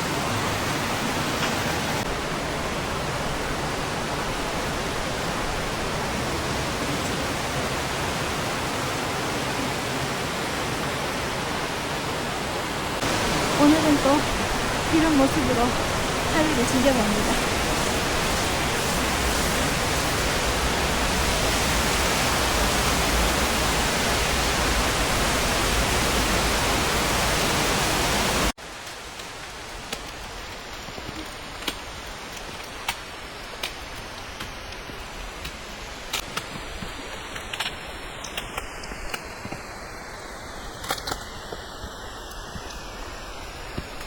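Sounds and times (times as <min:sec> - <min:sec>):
mountain torrent rushing: 0:00.0 - 0:44.0.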